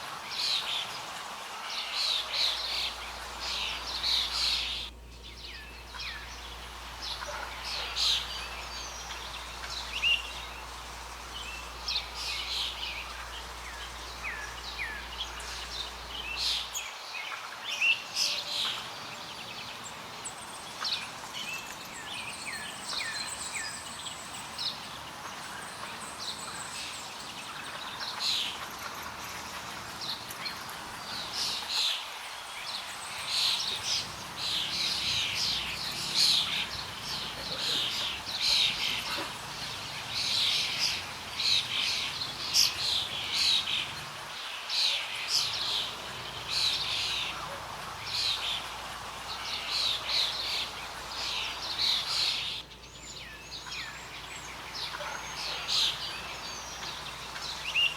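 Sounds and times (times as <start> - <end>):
outdoor hiss: 0.0 - 57.9
songbirds chirping: 0.0 - 57.9.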